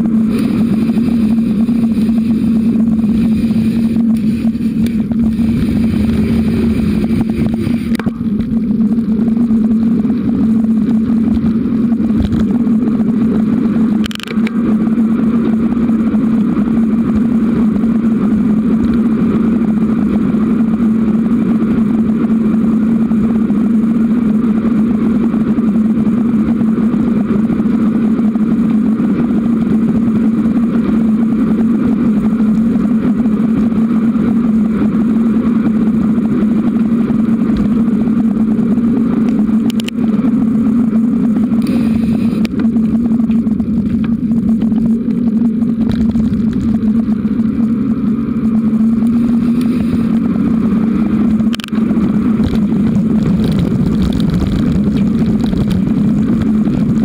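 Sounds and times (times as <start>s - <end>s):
wind and road rumble on microphone: 0.0s - 57.0s.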